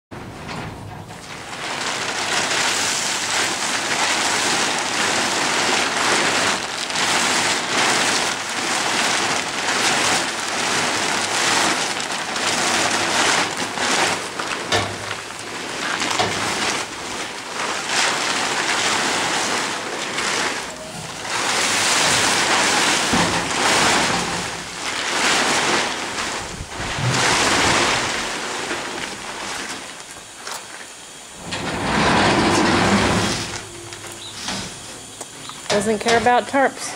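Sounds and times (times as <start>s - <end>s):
plastic tarp crackling and rustling: 0.2s - 36.9s.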